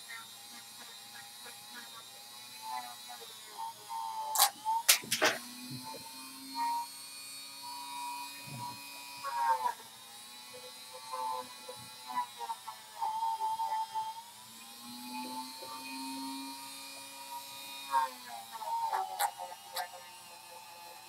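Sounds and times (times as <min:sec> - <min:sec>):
electric motor tool whining: 0:00.0 - 0:21.0.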